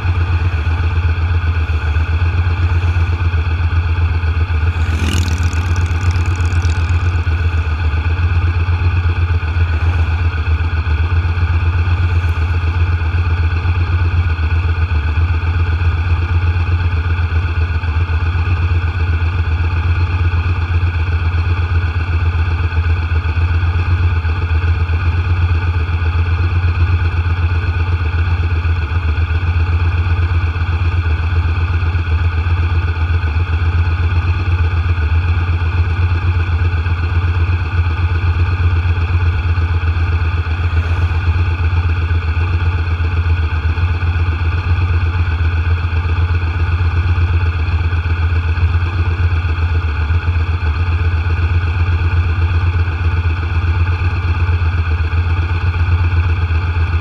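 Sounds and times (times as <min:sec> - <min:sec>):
vehicle engine and road drone: 0:00.0 - 0:57.0.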